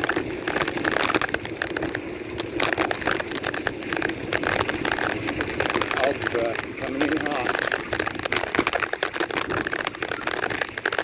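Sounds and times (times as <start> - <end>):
bicycle riding over rough ground: 0.0 - 11.0
crackling clicks: 0.0 - 11.0.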